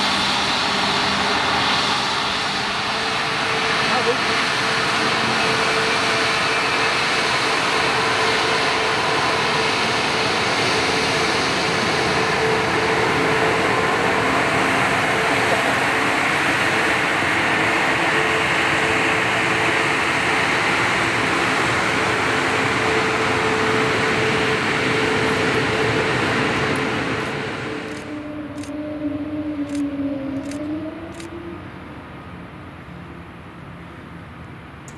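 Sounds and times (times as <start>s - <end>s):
jet engines rushing with whine: 0.0s - 34.9s.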